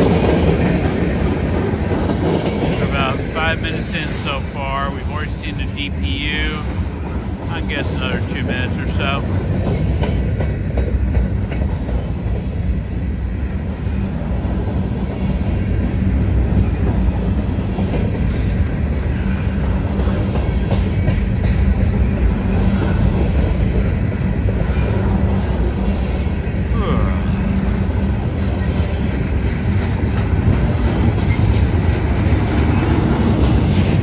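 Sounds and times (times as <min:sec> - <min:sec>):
wheels clacking over rail joints: 0:00.0 - 0:26.7, 0:27.5 - 0:34.0
train wheels rumbling on rail: 0:00.0 - 0:34.0.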